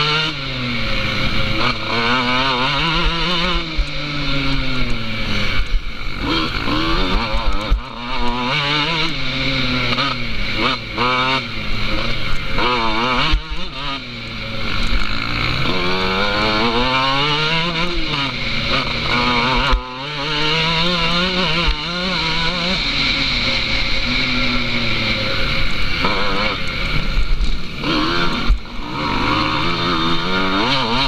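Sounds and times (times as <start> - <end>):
bike tyres humming on asphalt: 0.0 - 31.0
wind and road noise: 0.0 - 31.0.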